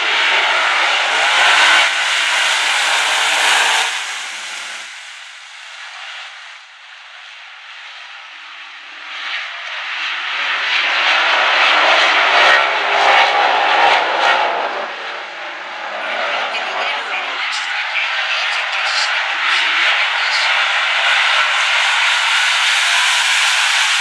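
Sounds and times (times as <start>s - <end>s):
race car engines at full throttle: 0.0s - 24.0s.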